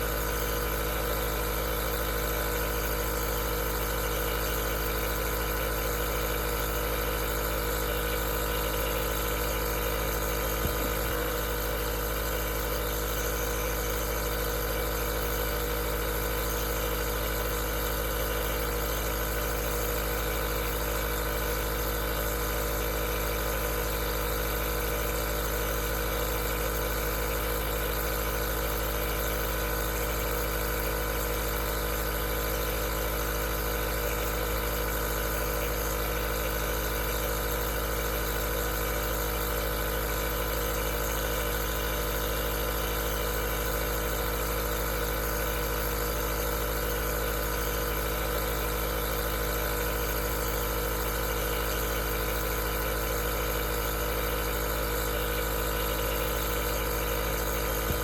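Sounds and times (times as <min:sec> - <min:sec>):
nebulizer compressor humming: 0:00.0 - 0:58.0.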